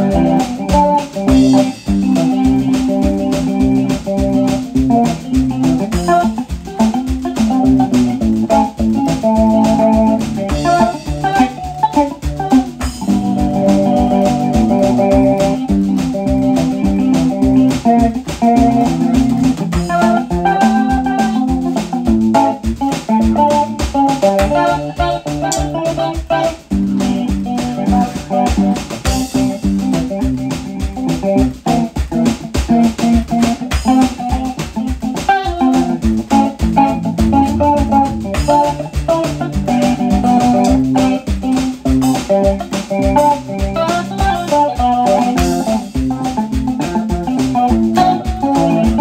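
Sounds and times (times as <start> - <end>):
music with organ and guitar: 0.0 - 49.0.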